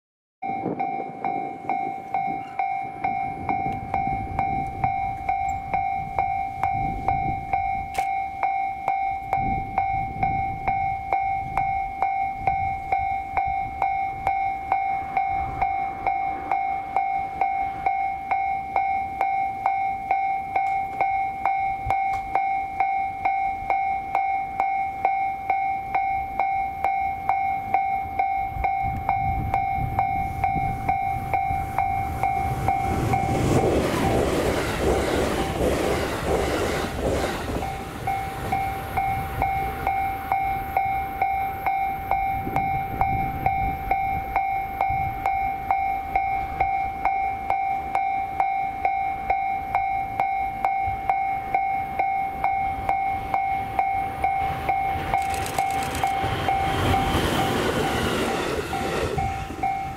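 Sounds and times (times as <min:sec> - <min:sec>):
level crossing alarm chime: 0:00.4 - 0:59.9.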